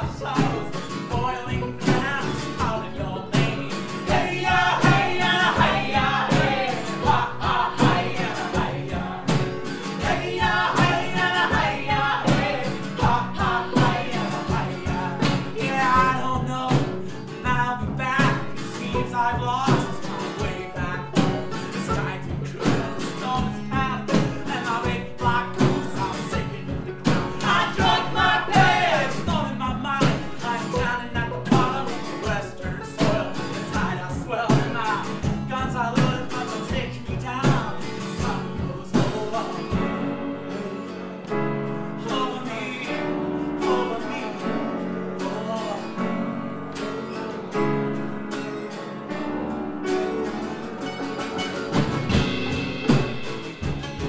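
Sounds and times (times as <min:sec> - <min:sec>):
man singing: 0:00.0 - 0:46.6
banjo: 0:00.0 - 0:54.0
strummed acoustic guitars: 0:00.0 - 0:54.0
upright bass: 0:00.0 - 0:54.0.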